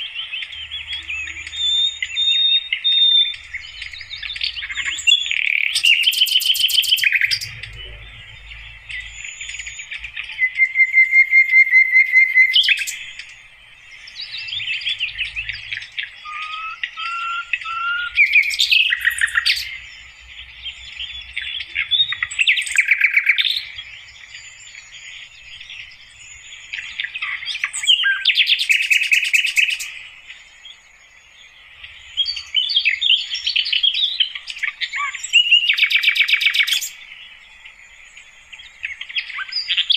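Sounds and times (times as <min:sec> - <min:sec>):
flycatcher singing: 0:00.0 - 0:39.9.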